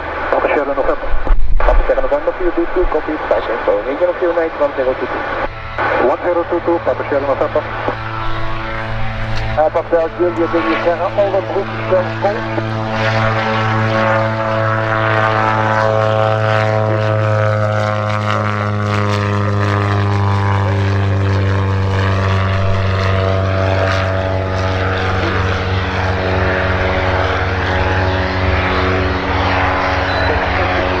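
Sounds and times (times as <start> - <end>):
aircraft engine droning: 0.0 - 31.0.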